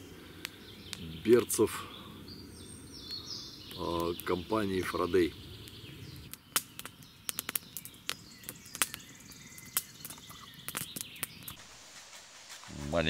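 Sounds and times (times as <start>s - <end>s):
faint bird calls: 0.0s - 13.0s.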